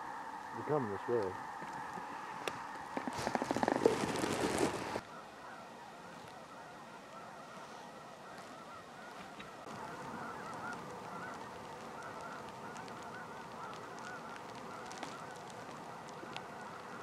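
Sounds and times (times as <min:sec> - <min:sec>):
flock of geese honking: 0:00.0 - 0:17.0.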